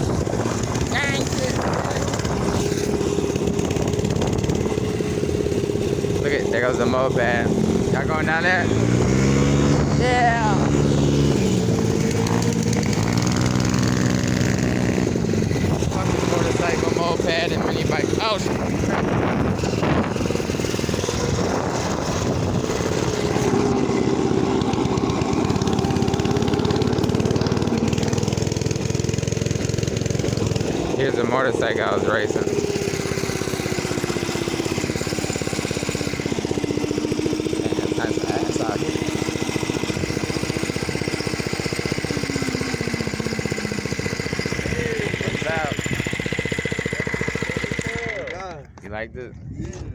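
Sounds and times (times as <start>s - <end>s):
small motorbike engine: 0.0s - 48.8s.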